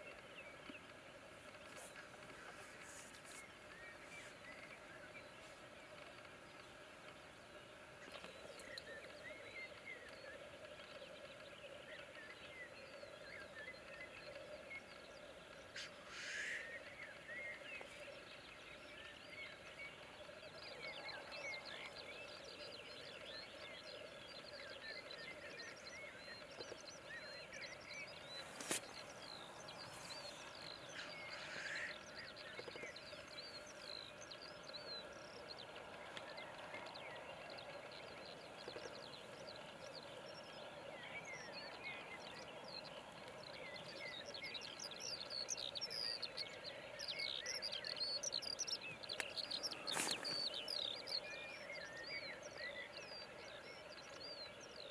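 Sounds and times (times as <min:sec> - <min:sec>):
small birds chirping: 0:00.0 - 0:54.9
grouse bubbling display calls: 0:00.2 - 0:12.2, 0:12.8 - 0:54.9.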